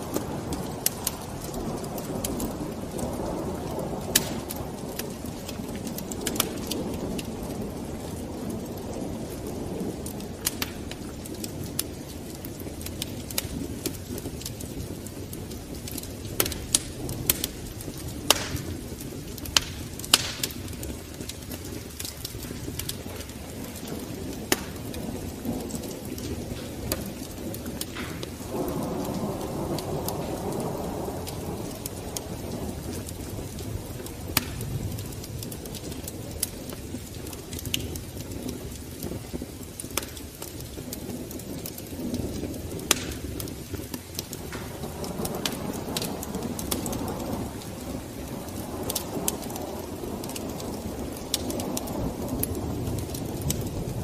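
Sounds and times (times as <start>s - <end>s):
fire crackles and pops: 0.0s - 54.0s
fire rushing: 0.0s - 54.0s.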